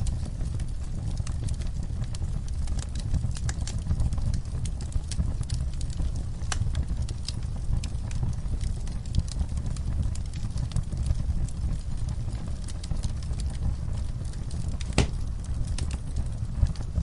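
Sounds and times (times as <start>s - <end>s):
campfire crackling and popping: 0.0s - 17.0s
low rumble of flames: 0.0s - 17.0s.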